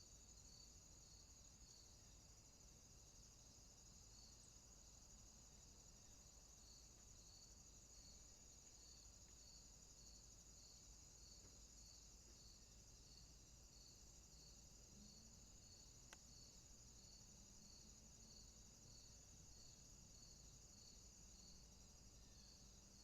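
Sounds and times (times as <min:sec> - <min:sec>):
lower insect chirp: 0:00.0 - 0:23.0.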